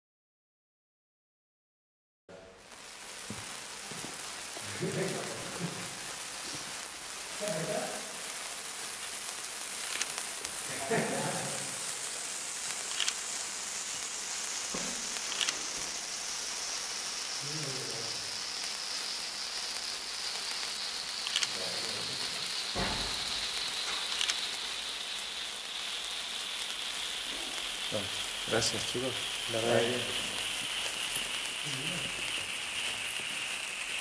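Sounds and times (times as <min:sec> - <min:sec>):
sizzling hiss of sparks: 0:02.3 - 0:34.0
sharp crackles: 0:02.6 - 0:34.0.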